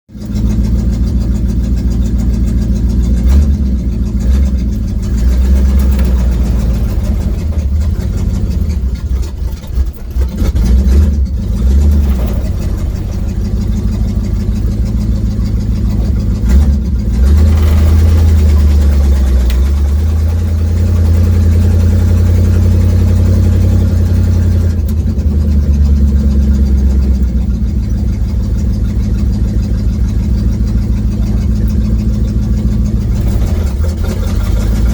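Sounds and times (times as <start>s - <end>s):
car engine droning: 0.1s - 34.9s.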